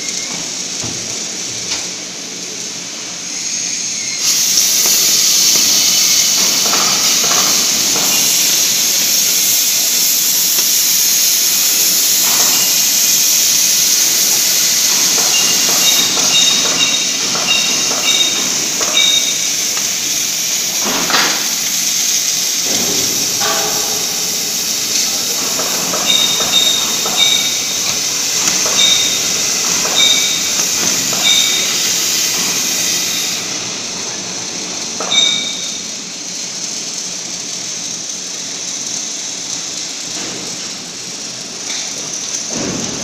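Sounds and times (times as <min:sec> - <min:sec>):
plasma torch hissing: 0:00.0 - 0:43.0.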